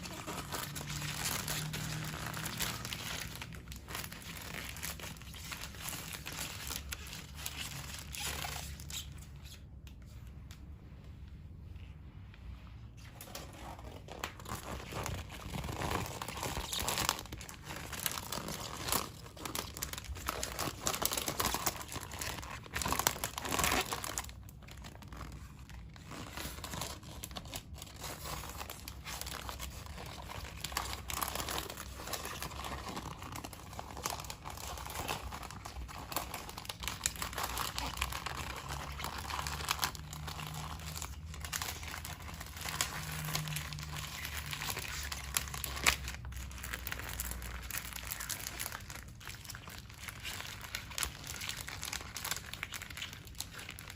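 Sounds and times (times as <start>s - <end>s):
thin plastic crinkling: 0.0s - 10.7s, 12.9s - 53.9s.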